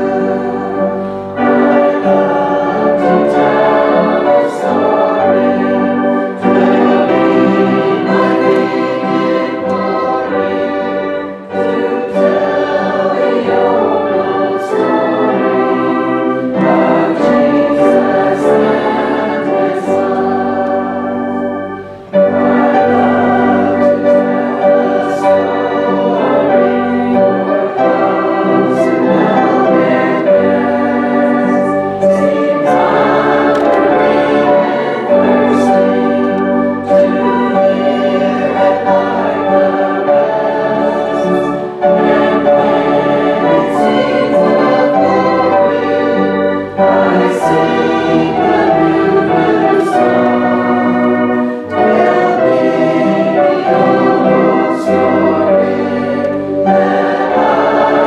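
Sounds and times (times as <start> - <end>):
organ chords: 0.0 - 58.0
voices singing a hymn: 0.0 - 58.0.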